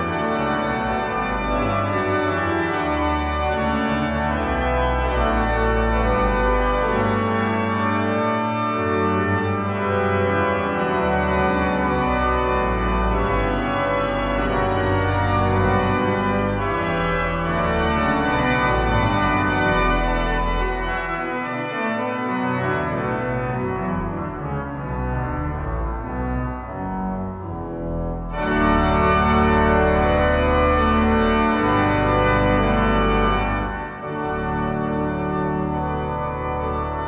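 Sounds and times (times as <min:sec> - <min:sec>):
pipe organ chords: 0:00.0 - 0:37.0.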